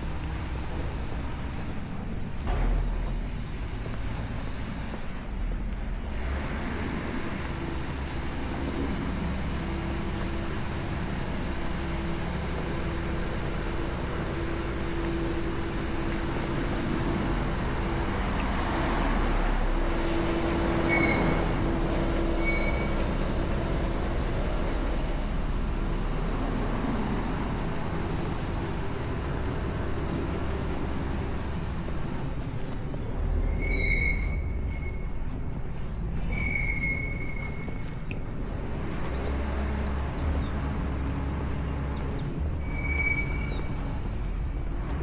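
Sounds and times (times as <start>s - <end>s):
rumble of passing traffic: 0.0s - 45.0s.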